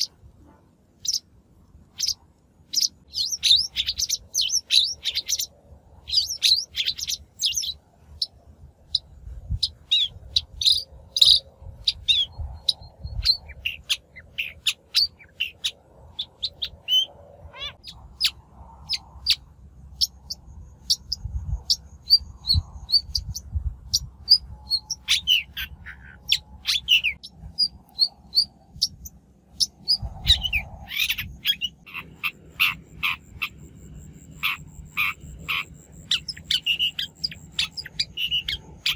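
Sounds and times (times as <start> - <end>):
faint low rumble: 0.0 - 38.9
shrike chirping and whistling: 1.9 - 8.3, 8.9 - 19.4, 20.0 - 38.9.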